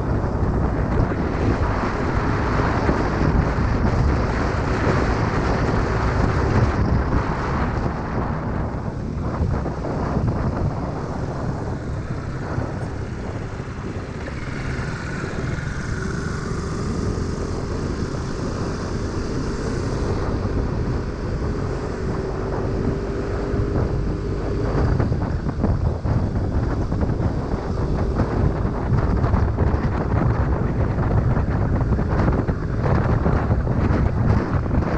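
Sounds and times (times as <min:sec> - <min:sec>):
scooter engine drone: 0:00.0 - 0:34.9
wind rushing over microphone: 0:00.0 - 0:34.9.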